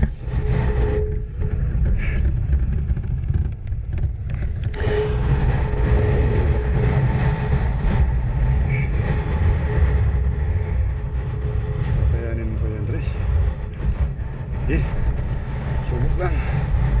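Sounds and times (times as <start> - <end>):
faint steady whine: 0.0 - 17.0
motorcycle engine rumble: 0.0 - 17.0.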